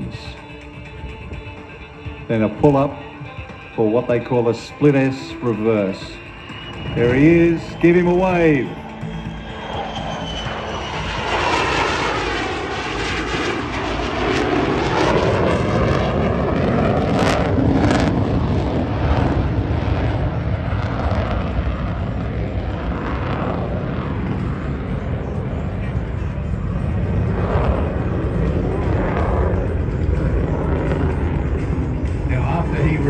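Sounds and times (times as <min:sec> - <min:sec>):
fighter jet flying past: 0:00.0 - 0:33.0.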